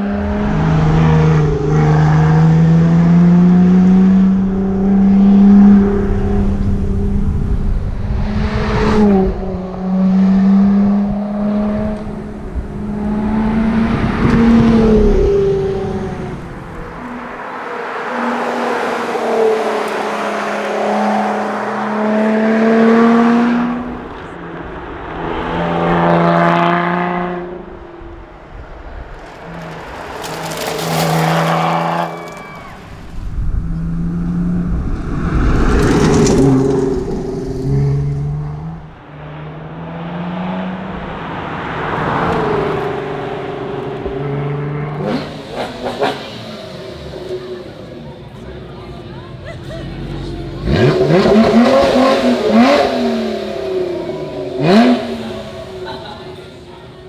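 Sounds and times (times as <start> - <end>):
sports car accelerating hard: 0.0 - 28.3, 29.2 - 49.2, 50.0 - 56.5.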